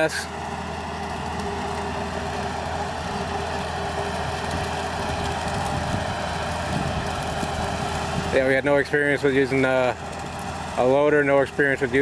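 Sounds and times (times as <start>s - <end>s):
distant tractor diesel engine: 0.0s - 12.0s
mower cutting tall grass: 0.0s - 12.0s.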